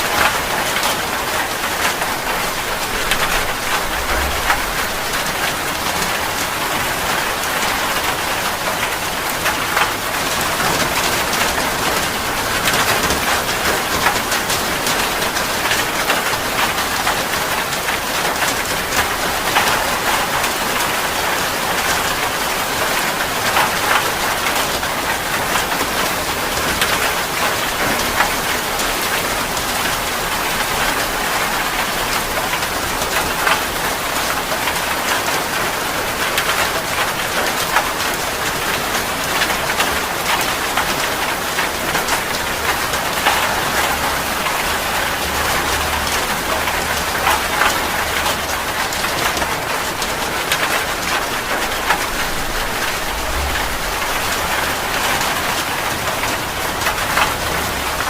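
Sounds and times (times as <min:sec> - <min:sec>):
heavy rain falling: 0:00.0 - 0:58.0
raindrops spattering on a surface: 0:00.0 - 0:58.0.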